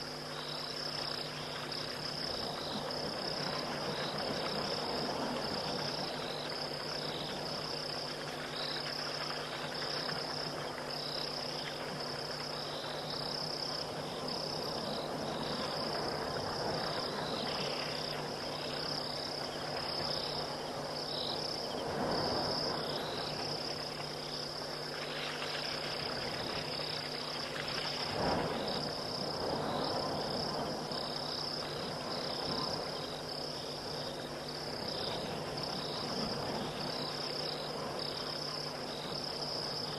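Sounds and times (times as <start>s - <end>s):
background hiss: 0.0s - 39.9s
insects trilling: 0.0s - 39.9s
pulsing insect chirps: 0.0s - 39.9s.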